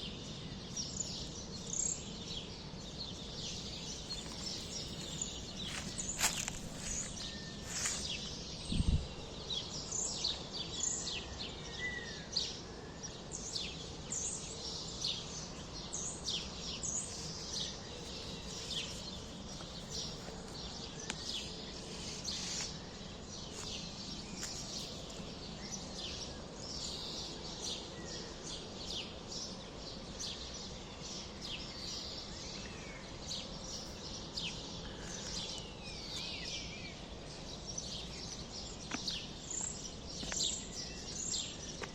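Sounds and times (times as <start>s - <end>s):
small birds chirping: 0.0s - 12.6s, 13.4s - 41.9s
steady background noise: 0.0s - 41.9s.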